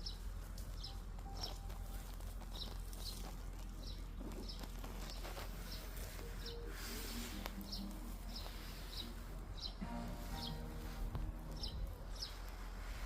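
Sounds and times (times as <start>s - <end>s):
small songbird chirping: 0.0s - 13.0s
steady low hum: 0.0s - 13.0s.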